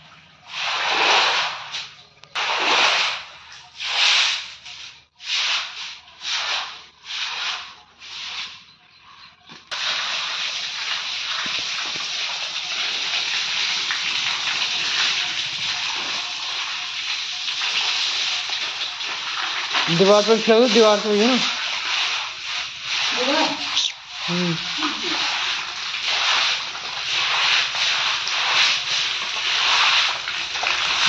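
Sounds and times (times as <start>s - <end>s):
hose water gushing onto floor: 0.0s - 8.6s, 9.7s - 31.0s
broom scrubbing wet floor: 0.4s - 8.8s, 9.7s - 31.0s.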